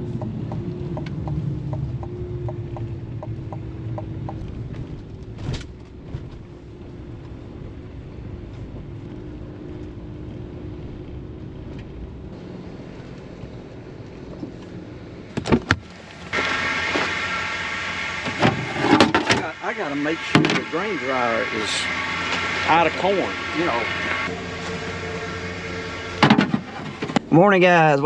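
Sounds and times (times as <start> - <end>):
truck engine rumbling: 0.0 - 28.0.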